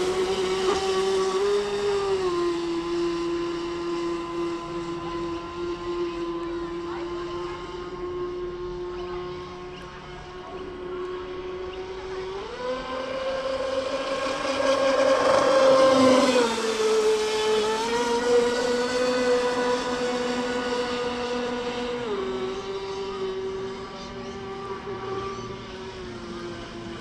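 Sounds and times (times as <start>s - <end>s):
rc boat motor whining: 0.0s - 27.0s.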